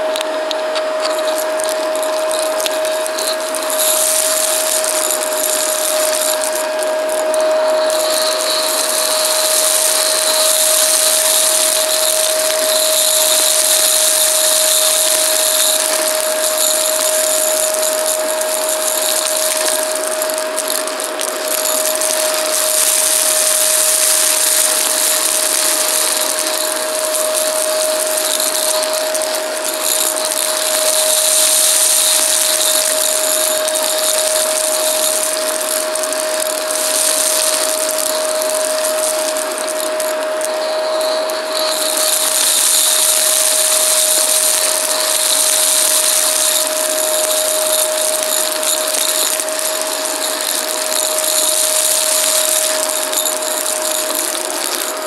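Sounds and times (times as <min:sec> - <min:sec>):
debris crunching: 0:00.0 - 0:55.0
vacuum cleaner running: 0:00.0 - 0:55.0.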